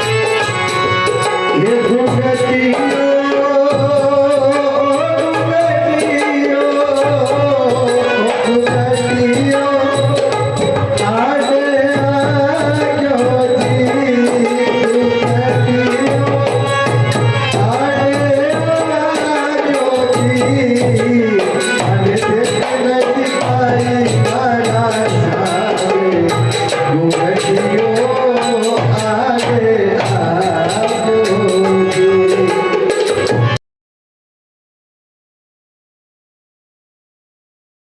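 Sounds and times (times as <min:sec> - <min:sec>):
ornamented melody line: 0:00.0 - 0:33.6
tabla rhythm: 0:00.0 - 0:33.6.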